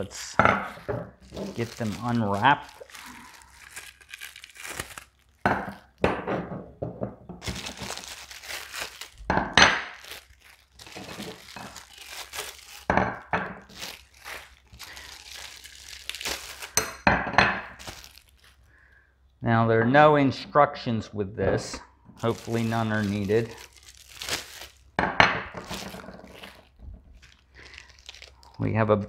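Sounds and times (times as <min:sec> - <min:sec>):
plastic wrapping crinkling and tearing: 0:00.0 - 0:06.1, 0:07.4 - 0:19.0, 0:22.2 - 0:29.0.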